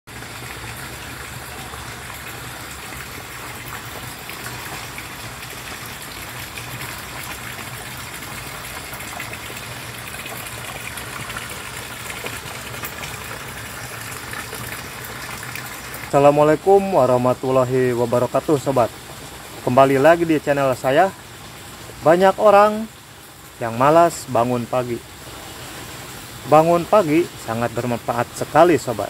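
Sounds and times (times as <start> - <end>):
water gushing into pond: 0.1 - 29.0.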